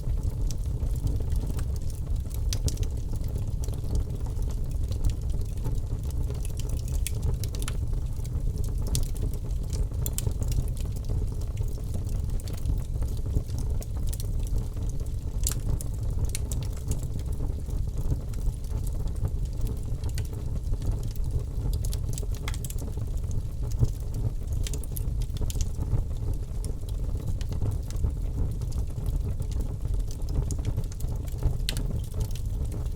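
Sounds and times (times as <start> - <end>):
fire crackling and popping: 0.0 - 32.9.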